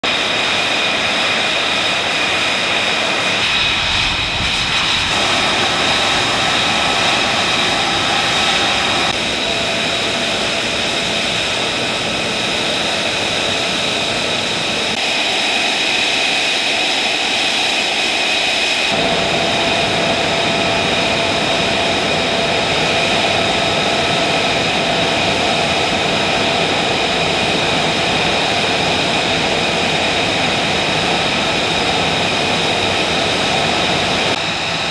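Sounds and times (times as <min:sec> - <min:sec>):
aircraft turbine engines whining: 0:00.0 - 0:34.9.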